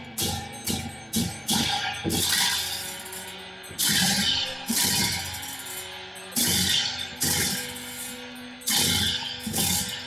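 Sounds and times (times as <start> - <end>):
hand cymbals crashing: 0.0 - 10.0.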